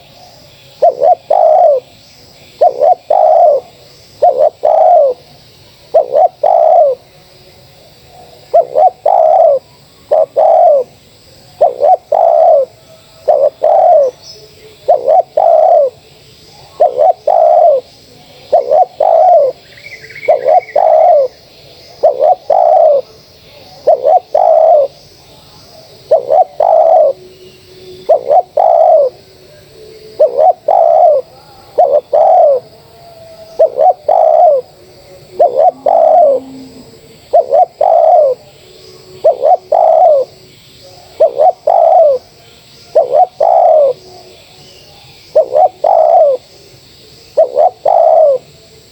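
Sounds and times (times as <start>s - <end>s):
doves cooing: 0.8s - 7.1s, 7.9s - 25.0s, 25.8s - 48.5s
bird chirping: 8.2s - 48.4s.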